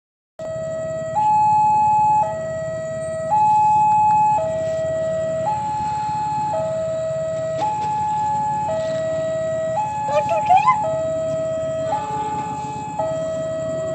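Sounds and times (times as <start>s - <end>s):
electronic two-tone warning siren: 0.4s - 13.9s.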